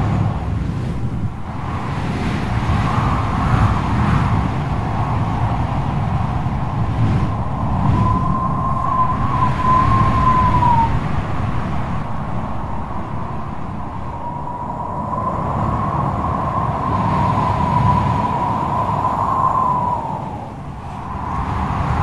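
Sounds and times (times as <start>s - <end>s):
heavy surf: 0.0s - 22.0s
strong wind: 0.0s - 22.0s
wind buffeting microphone: 0.0s - 22.0s.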